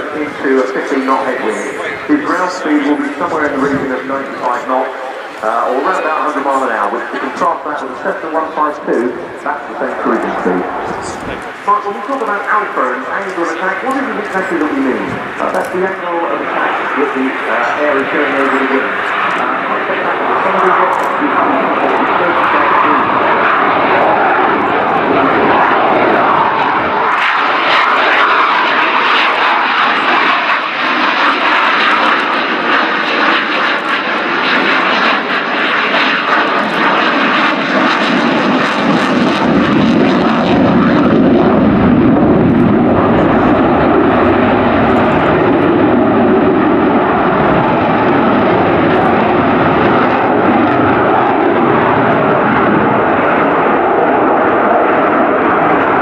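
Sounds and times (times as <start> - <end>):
fighter jet flying: 0.0 - 56.0.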